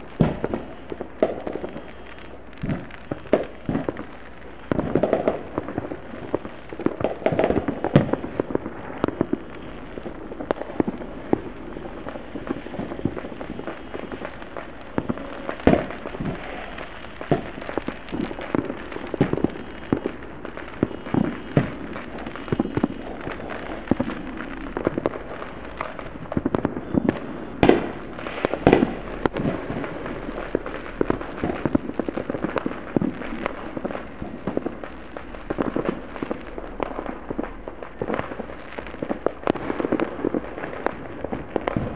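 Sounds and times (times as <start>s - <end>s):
distant fireworks pops and bangs: 0.0s - 41.9s
firecrackers crackling: 0.0s - 41.9s.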